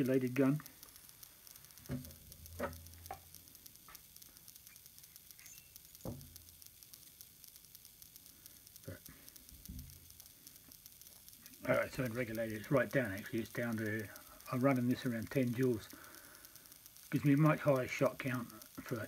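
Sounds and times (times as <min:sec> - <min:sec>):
small metal parts clicking: 0:00.0 - 0:19.0.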